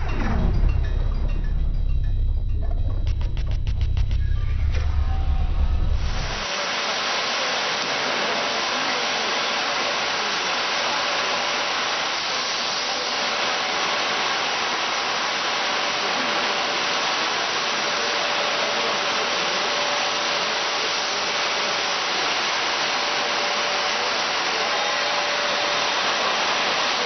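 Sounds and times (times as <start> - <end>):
woodworking machine running: 0.0 - 27.0.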